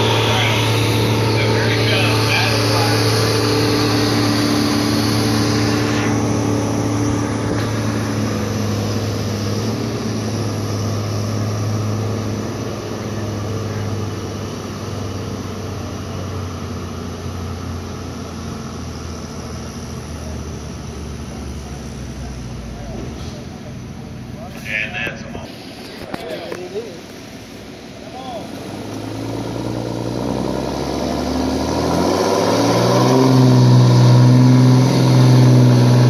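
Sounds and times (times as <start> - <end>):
tractor engine under heavy load: 0.0 - 36.0.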